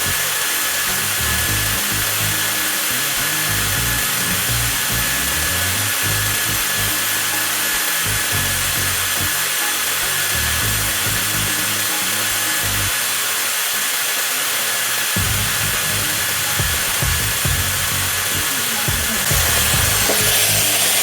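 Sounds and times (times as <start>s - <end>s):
angle grinder motor whirring: 0.0s - 21.0s.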